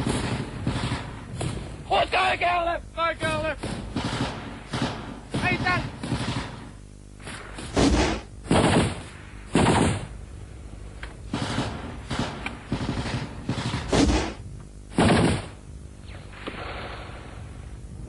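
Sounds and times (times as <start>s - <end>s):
rifle gunfire bursts: 0.0s - 1.9s, 3.2s - 10.6s, 11.2s - 17.8s.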